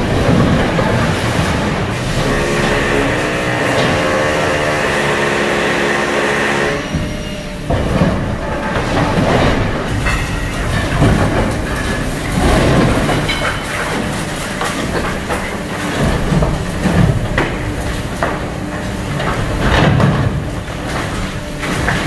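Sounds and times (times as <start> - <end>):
concrete cracking and crunching: 0.0 - 22.0
excavator engine running: 0.0 - 22.0.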